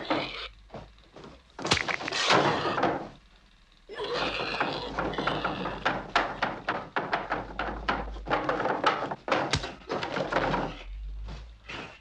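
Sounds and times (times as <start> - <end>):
rapid thumps and knocks: 0.0 - 3.4, 4.2 - 12.0.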